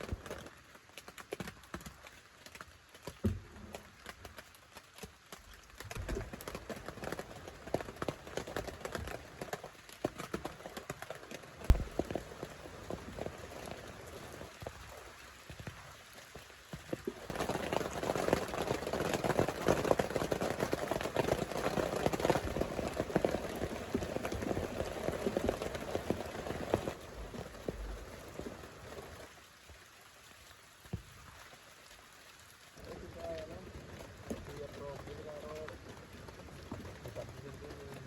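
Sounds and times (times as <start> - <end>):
rain patter: 0.0 - 38.0.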